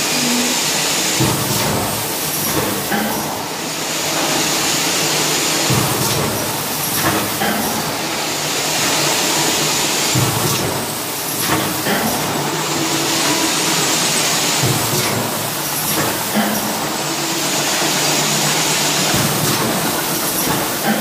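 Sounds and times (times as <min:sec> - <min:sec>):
machine hissing: 0:00.0 - 0:21.0
filling machine clattering: 0:00.2 - 0:21.0.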